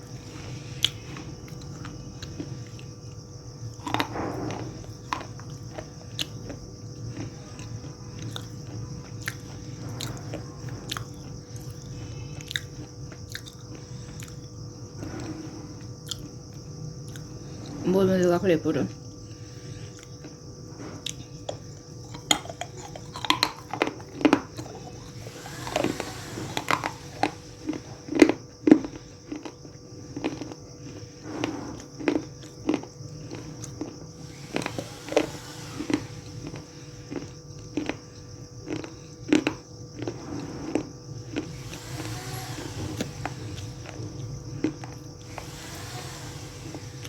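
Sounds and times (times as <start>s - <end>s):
crunchy clay being chewed: 0.0s - 17.8s, 18.9s - 46.9s.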